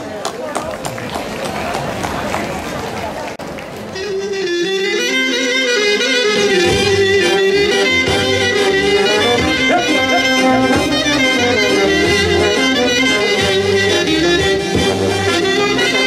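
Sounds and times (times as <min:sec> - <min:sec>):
folk dance music: 0:01.6 - 0:16.0.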